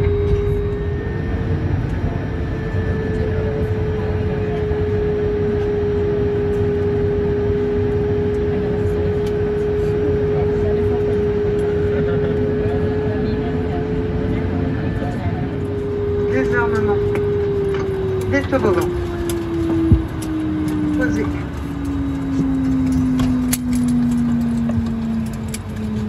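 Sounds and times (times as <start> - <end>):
constant droning tone: 0.0 - 26.0
jet engines rumbling at idle: 0.0 - 26.0.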